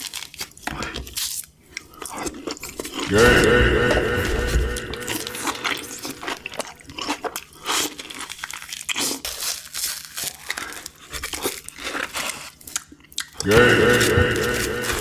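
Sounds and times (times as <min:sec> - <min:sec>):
crunching and chewing fried chicken: 0:00.0 - 0:03.1, 0:05.7 - 0:15.0.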